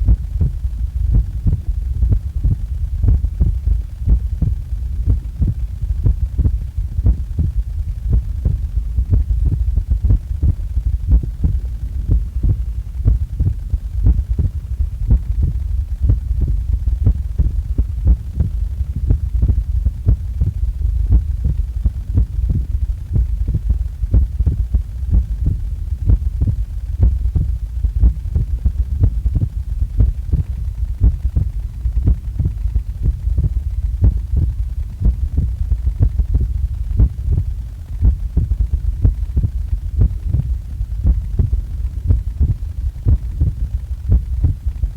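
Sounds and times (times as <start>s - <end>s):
constant low hum: 0.0s - 44.9s
heartbeat: 0.0s - 44.9s.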